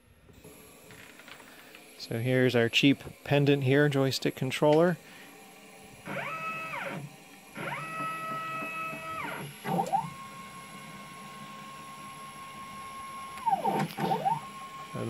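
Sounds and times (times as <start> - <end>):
stepper motor whine: 0.4 - 15.0.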